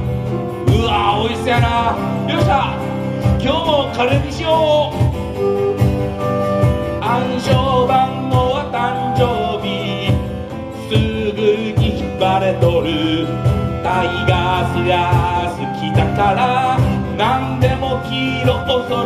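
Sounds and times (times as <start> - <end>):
acoustic guitar: 0.0 - 19.0
woodwind: 0.0 - 19.0
person singing: 0.3 - 5.6, 6.9 - 19.0.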